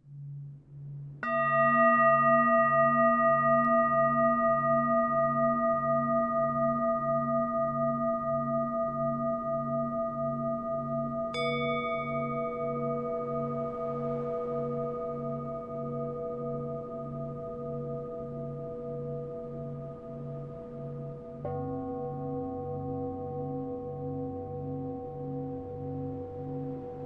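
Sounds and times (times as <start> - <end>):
struck bell-like tone: 1.2 - 27.0.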